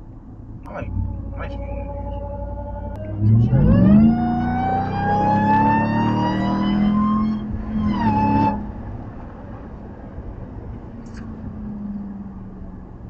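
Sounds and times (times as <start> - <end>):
road noise: 0.0 - 13.0
supercharger whine: 0.1 - 13.0
truck engine accelerating hard: 0.6 - 13.0.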